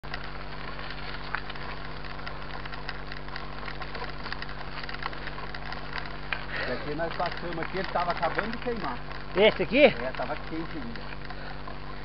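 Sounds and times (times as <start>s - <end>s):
bike tyres crunching on gravel: 0.0s - 12.0s
loose stones clicking: 0.0s - 12.0s.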